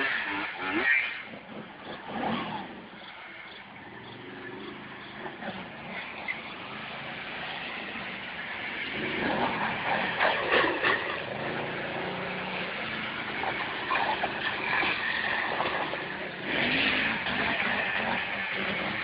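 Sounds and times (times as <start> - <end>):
quad engines revving: 0.0 - 19.0.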